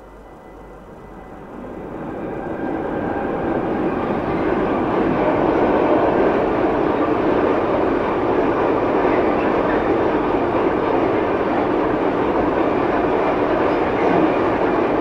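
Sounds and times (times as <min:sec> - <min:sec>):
freight train wheels on rail: 0:00.0 - 0:15.0.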